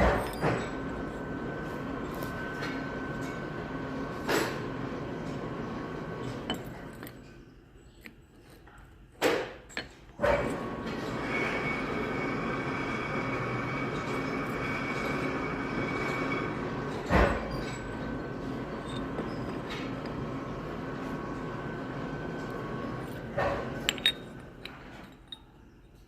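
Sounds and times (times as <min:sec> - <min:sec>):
metal lathe hum and whine: 0:00.0 - 0:07.1, 0:10.2 - 0:26.0.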